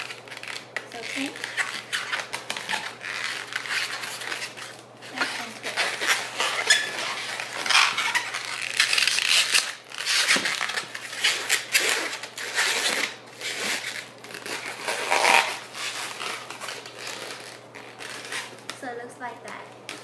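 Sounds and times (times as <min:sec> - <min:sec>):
balloons rubbing and squeaking: 0:00.0 - 0:18.8.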